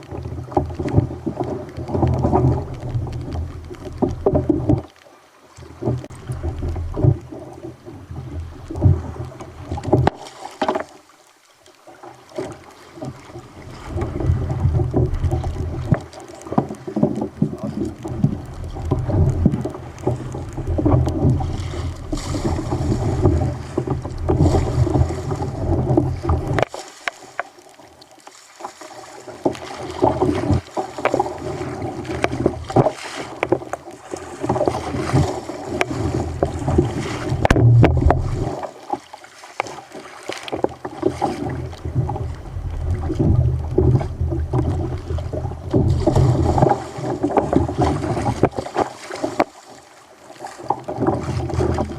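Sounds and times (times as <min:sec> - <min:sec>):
water sloshing against a hull: 0:00.0 - 0:51.9.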